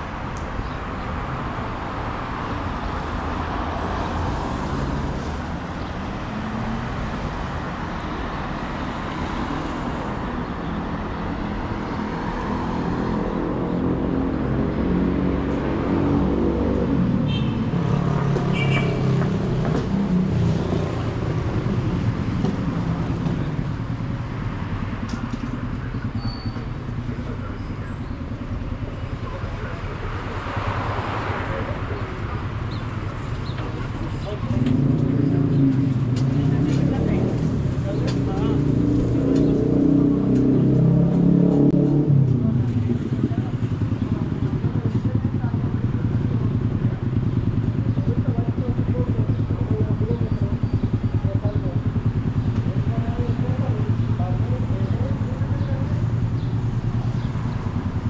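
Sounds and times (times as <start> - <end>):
passing cars: 0.0 - 58.0.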